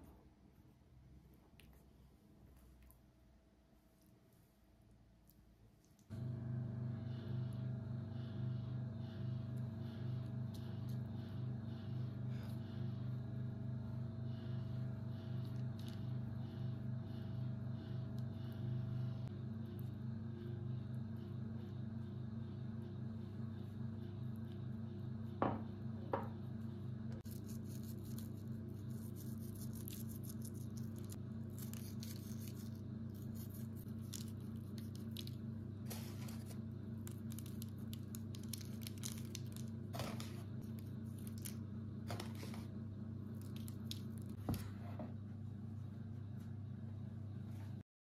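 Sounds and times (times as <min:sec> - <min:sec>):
low hum: 0:05.9 - 0:47.8.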